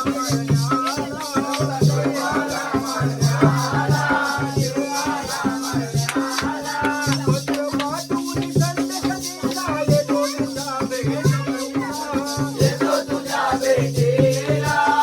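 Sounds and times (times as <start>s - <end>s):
drum beating fast rhythm: 0.0s - 15.0s
jingling rattle: 0.0s - 15.0s.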